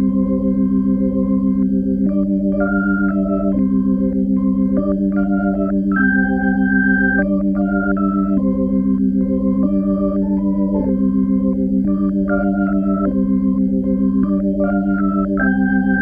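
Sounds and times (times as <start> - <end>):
organ-like chord music: 0.0 - 16.0.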